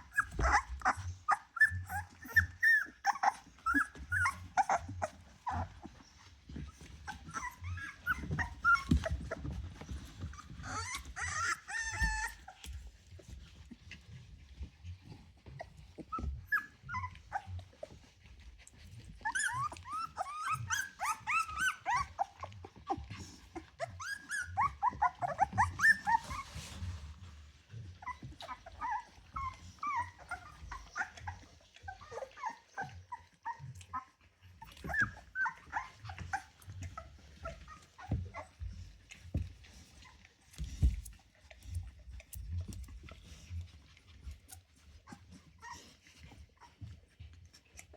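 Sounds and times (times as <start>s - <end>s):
puppies squeaking and whining: 0.0s - 47.9s.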